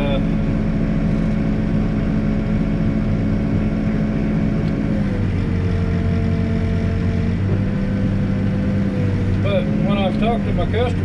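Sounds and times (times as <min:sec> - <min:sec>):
backhoe diesel engine running: 0:00.0 - 0:11.0.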